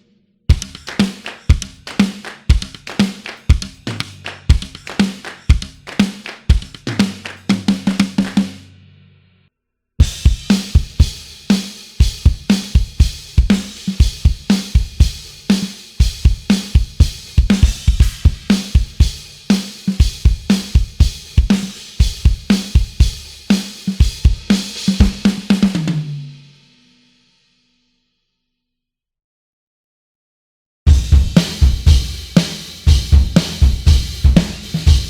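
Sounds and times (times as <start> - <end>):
drum kit groove: 0.0 - 8.7, 10.0 - 26.4, 30.9 - 35.0.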